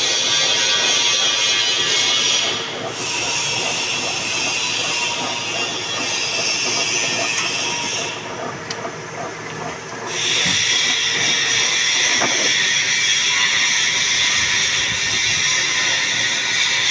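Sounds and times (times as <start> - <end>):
metal lathe running: 0.0 - 16.9.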